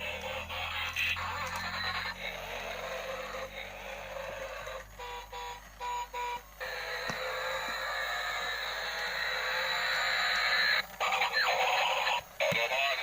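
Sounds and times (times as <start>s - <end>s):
tinny electronic toy music: 0.0s - 13.0s.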